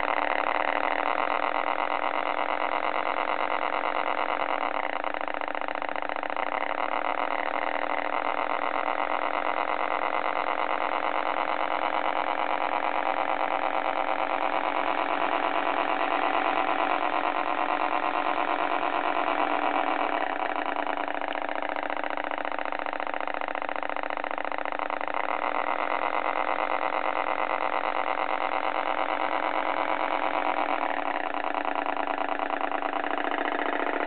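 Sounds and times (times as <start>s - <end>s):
simulated truck engine idling: 0.0s - 34.0s.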